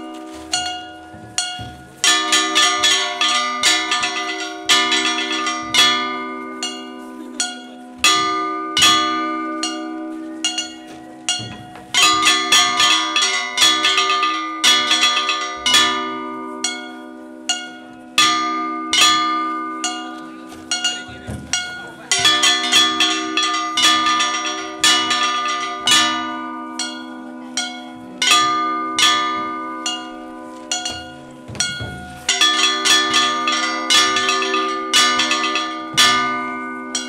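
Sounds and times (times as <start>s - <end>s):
brass cymbals clashing: 0.0s - 37.0s
hand drum beats: 0.0s - 37.0s.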